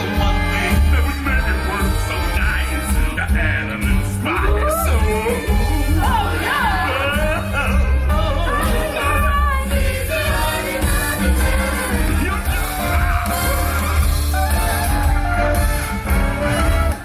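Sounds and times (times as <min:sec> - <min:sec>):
person singing: 0:00.0 - 0:15.0
pop backing track with heavy bass: 0:00.0 - 0:17.0.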